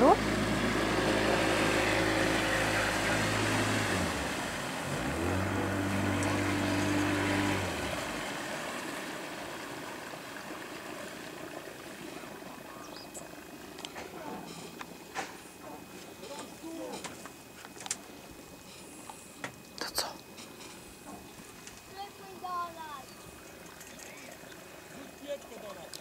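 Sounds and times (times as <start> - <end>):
hiss of water and wind: 0.0 - 26.0
outboard engine running: 0.0 - 26.0.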